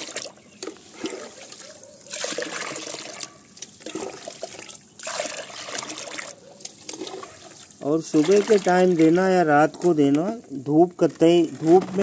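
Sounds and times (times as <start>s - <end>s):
water pouring into a plastic bucket: 0.0s - 9.8s, 10.8s - 12.0s.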